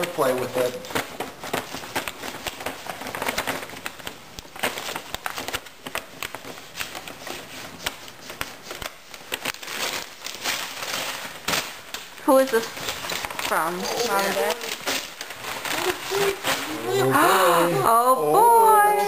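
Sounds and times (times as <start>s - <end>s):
wrapping paper crinkling: 0.0s - 19.0s.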